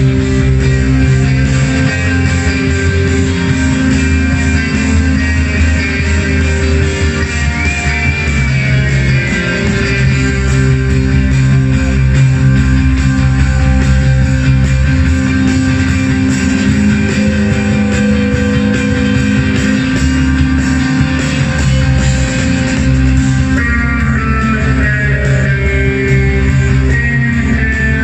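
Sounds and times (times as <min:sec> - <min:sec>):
live band droning instrumental: 0:00.0 - 0:28.0.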